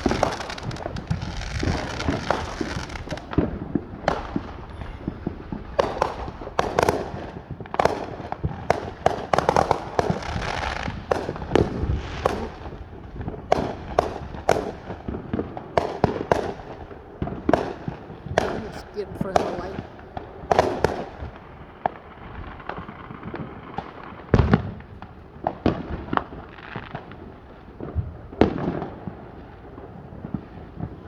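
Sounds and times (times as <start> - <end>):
fireworks crackling: 0.0 - 27.7
fireworks bangs and pops: 0.0 - 31.0.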